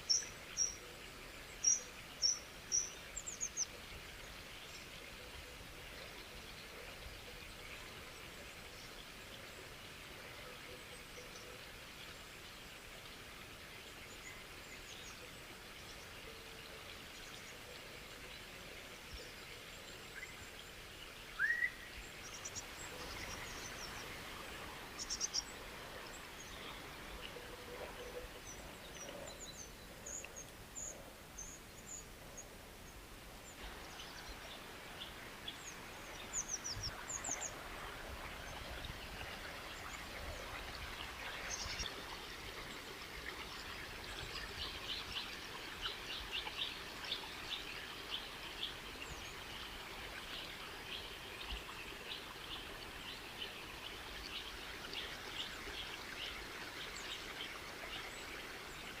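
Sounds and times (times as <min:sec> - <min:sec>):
small birds chirping: 0:00.0 - 0:09.5, 0:13.9 - 0:59.0
flowing water: 0:00.0 - 0:59.0.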